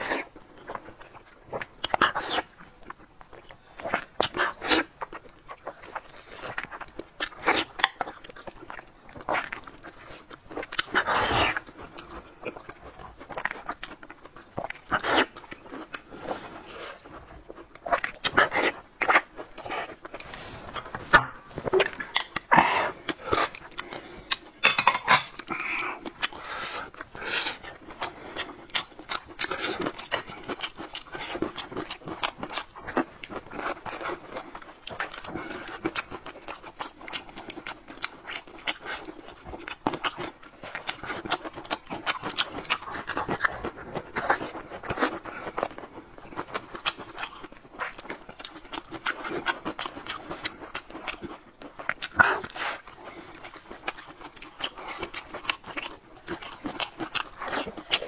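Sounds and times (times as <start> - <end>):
chewing and lip-smacking: 0.0 - 20.5, 21.2 - 58.0.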